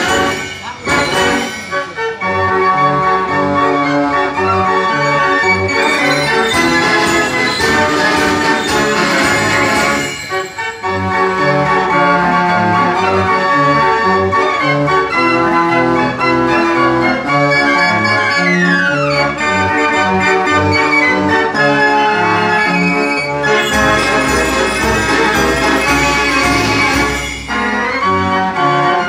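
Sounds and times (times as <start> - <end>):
fair organ playing lively tune: 0.0 - 29.0.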